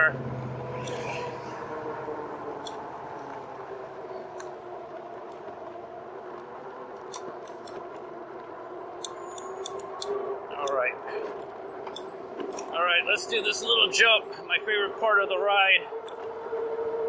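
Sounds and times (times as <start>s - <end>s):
electric bike whine: 0.0s - 17.0s.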